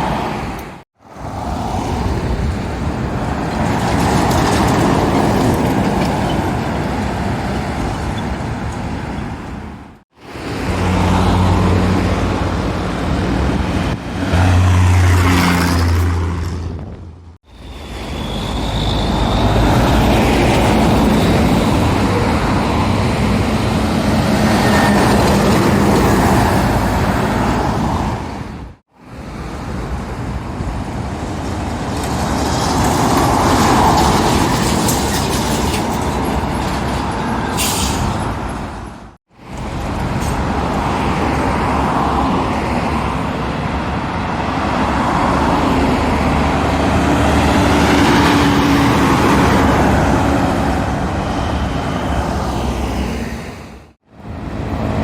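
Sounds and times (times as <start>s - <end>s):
heavy lorries passing: 0.0s - 55.0s.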